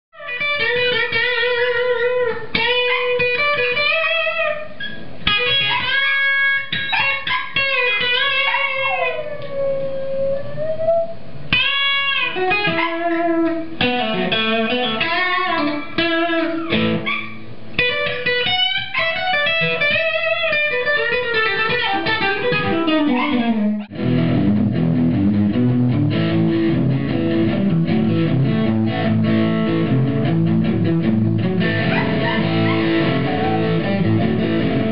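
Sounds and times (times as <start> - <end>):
strummed guitar chords: 0.2 - 9.2, 11.5 - 34.9
guitar lead line with bends: 0.2 - 34.9.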